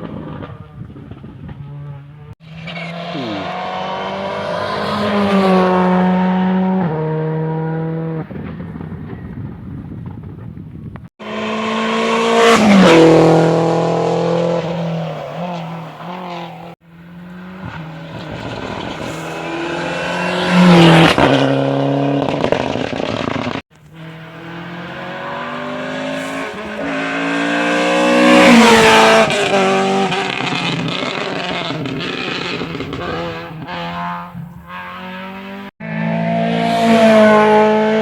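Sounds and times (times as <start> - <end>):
rally cars passing at speed: 0.0 - 10.2, 11.2 - 38.0.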